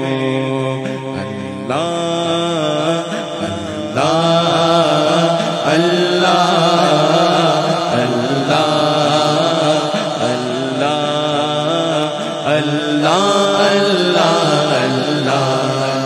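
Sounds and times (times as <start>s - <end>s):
man singing melismatic phrases: 0.0s - 16.0s.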